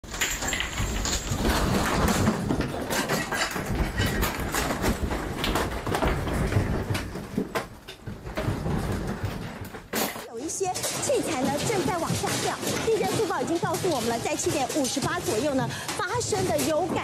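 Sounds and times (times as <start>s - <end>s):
objects rattling and knocking: 0.0s - 17.0s.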